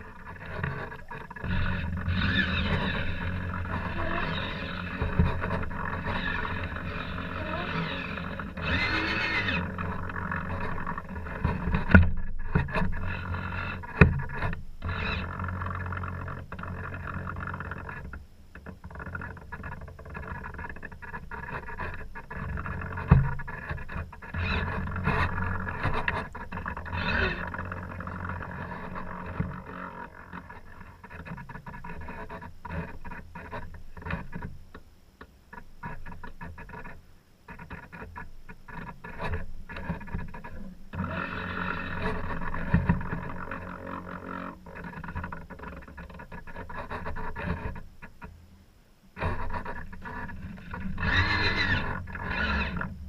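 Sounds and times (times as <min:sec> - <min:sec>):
wind: 0:00.0 - 0:53.0.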